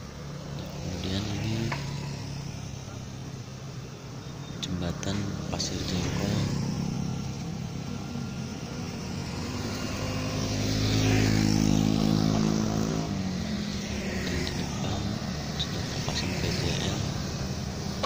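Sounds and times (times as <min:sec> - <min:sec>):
faint motorcycle engines: 0:00.0 - 0:18.0
vehicle engine passing: 0:00.0 - 0:18.0.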